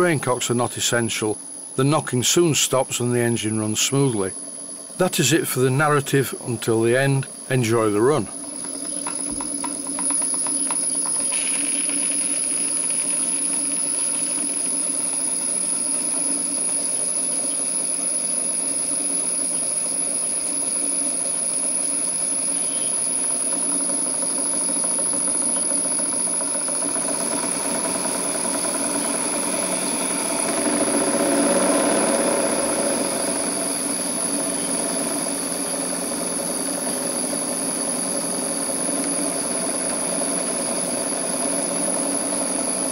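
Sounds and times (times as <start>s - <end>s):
thin high whine: 0.0s - 42.9s.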